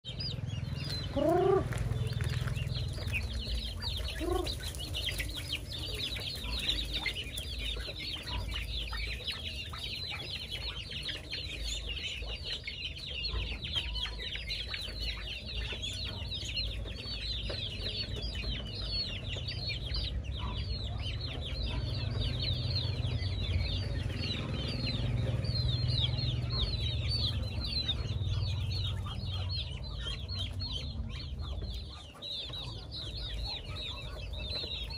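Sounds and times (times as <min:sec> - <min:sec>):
chicks and ducklings peeping: 0:00.0 - 0:34.9
steady low rumble: 0:00.2 - 0:34.9.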